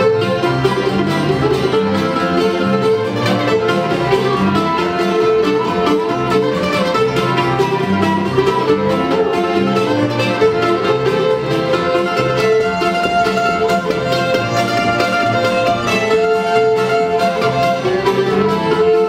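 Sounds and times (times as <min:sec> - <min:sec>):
fiddle melody: 0:00.0 - 0:19.0
plucked mandolin and guitar: 0:00.0 - 0:19.0.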